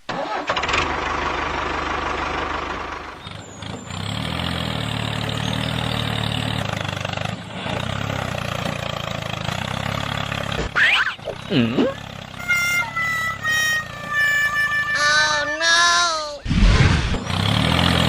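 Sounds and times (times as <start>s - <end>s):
tractor engine chugging: 0.1s - 16.4s.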